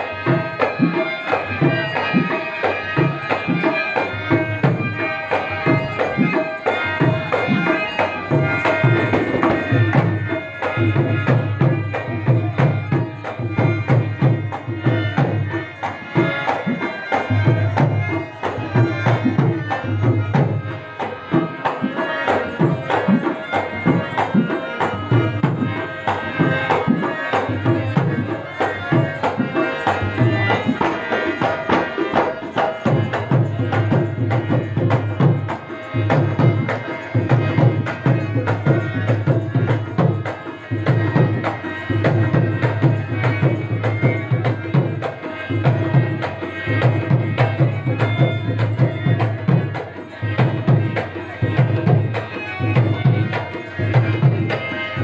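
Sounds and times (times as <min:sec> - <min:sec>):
tabla drumming: 0:00.0 - 0:55.0.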